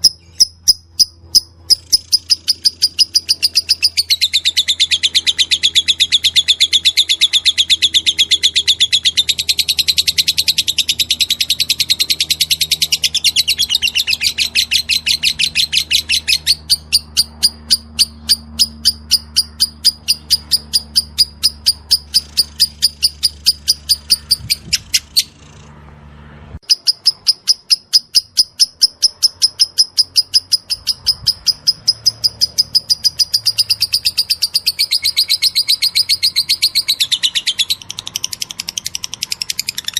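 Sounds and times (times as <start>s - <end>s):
lovebird shrill chatter: 0.0s - 25.6s, 26.6s - 39.9s.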